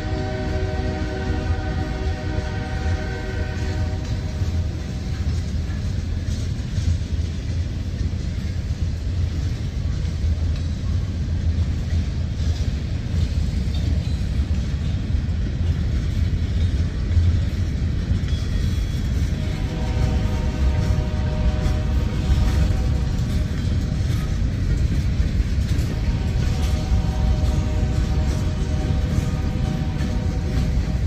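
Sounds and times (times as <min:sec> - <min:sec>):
freight train wheels rumbling on rail: 0:00.0 - 0:31.0.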